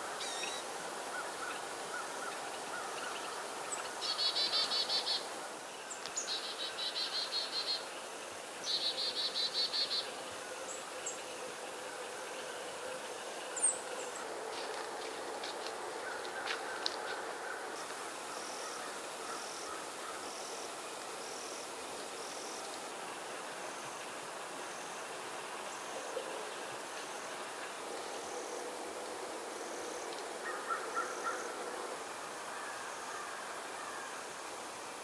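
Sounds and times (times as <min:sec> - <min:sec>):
steady hiss: 0:00.0 - 0:35.0.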